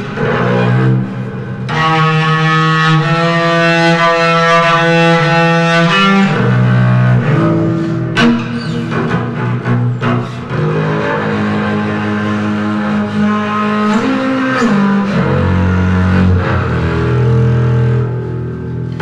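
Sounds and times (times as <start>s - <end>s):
bowed double bass notes: 0.0s - 19.0s.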